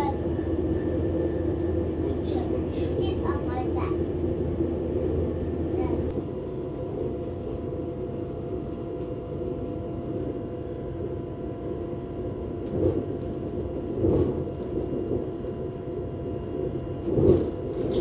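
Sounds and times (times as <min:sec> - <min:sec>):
train carriage rumble: 0:00.0 - 0:18.0.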